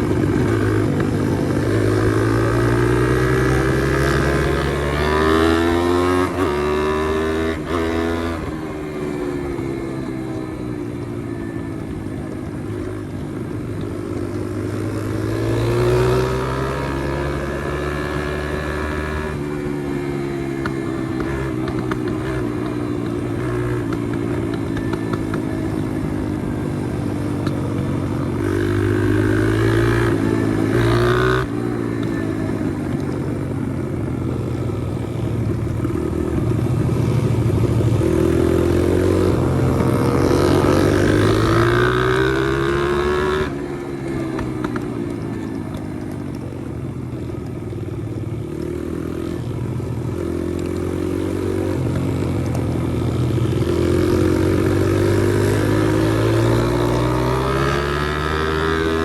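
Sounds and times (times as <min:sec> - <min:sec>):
small motorbike engine revving: 0:00.0 - 0:33.9, 0:34.8 - 0:59.0.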